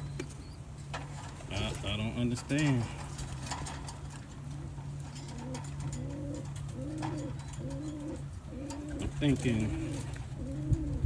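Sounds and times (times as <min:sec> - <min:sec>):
pigeons cooing: 0:00.0 - 0:11.0
steady low hum: 0:00.0 - 0:11.0.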